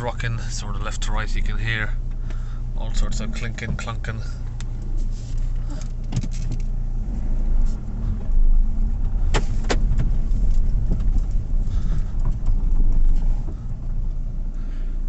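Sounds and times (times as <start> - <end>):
road and cabin rumble: 0.0 - 15.0
suspension clinking and clunking: 0.0 - 15.0.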